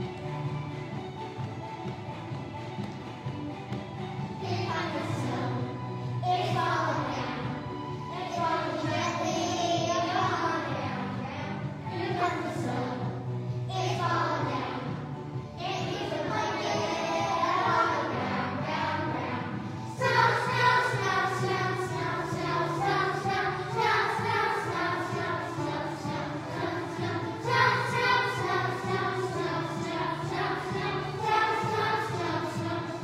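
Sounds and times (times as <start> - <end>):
children's choir singing: 0.0 - 33.0
musical accompaniment: 0.0 - 33.0.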